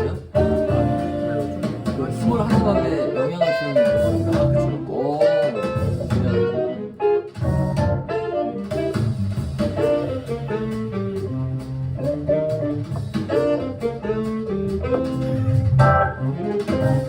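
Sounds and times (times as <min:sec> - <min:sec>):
jazz over speakers: 0:00.0 - 0:17.0.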